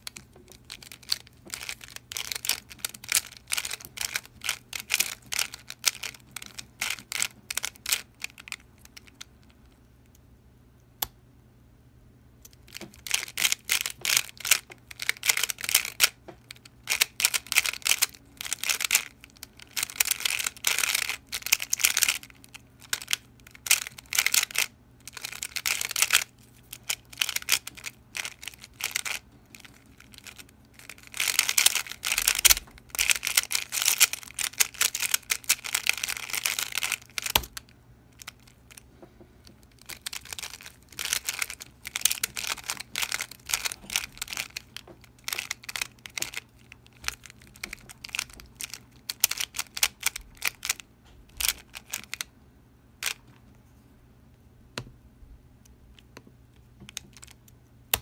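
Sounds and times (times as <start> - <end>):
puzzle cube clacking clicks: 0.0 - 9.6, 12.5 - 37.6, 39.6 - 50.8, 56.9 - 58.0.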